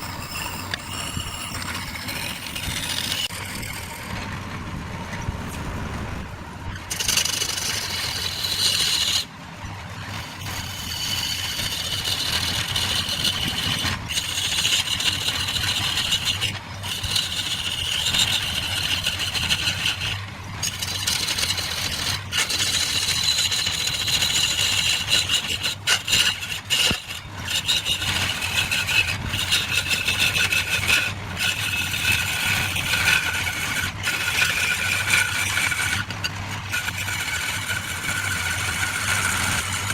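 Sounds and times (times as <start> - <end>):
lathe motor hum: 0.0 - 39.9
tool scraping spinning wood: 0.0 - 39.9.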